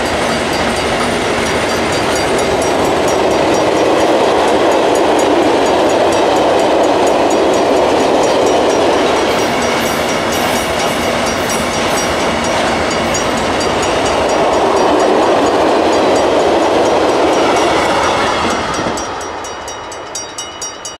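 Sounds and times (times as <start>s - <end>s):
level-crossing bell ringing: 0.0s - 21.0s
train wheels rumbling on rail: 0.0s - 21.0s.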